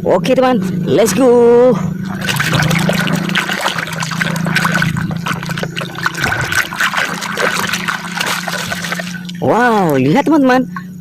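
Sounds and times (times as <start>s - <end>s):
steady hum: 0.1s - 11.0s
water splashing and running: 1.0s - 10.0s.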